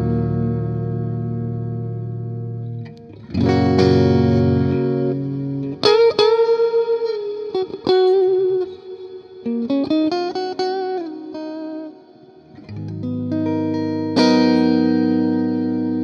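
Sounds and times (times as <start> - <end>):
electric guitar with heavy reverb: 0.0 - 16.0.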